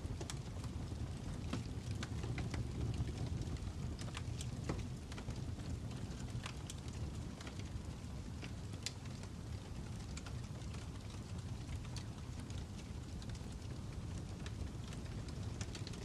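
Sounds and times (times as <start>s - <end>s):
fire pops and snaps: 0.0s - 16.0s
fire rumbling: 0.0s - 16.0s.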